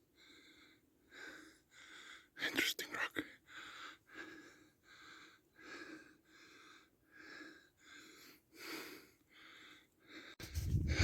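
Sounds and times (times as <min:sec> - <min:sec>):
man breathing heavily: 0:00.0 - 0:02.4, 0:03.4 - 0:11.0.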